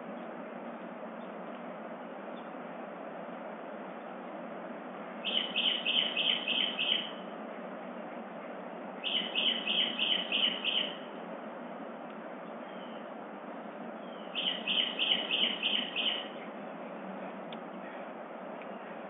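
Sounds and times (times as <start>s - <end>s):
songbird singing: 0.0s - 2.8s, 3.4s - 4.4s, 5.0s - 11.2s, 12.0s - 19.0s
steady background hiss: 0.0s - 19.0s.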